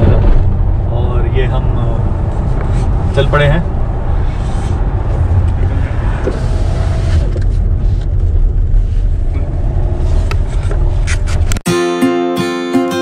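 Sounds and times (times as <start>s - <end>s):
car engine rumble: 0.0s - 11.6s
road noise: 0.0s - 11.7s.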